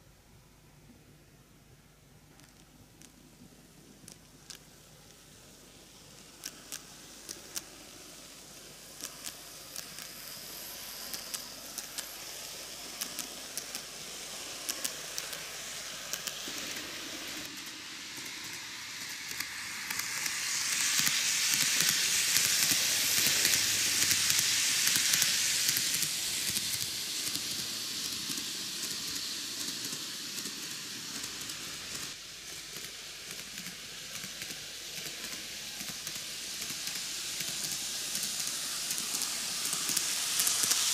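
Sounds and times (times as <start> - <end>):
model train wheels hissing: 1.9 - 40.9.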